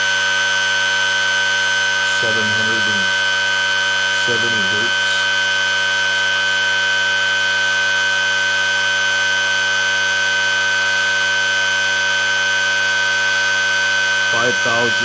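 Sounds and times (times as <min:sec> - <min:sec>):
motor high-pitched whine: 0:00.0 - 0:15.0.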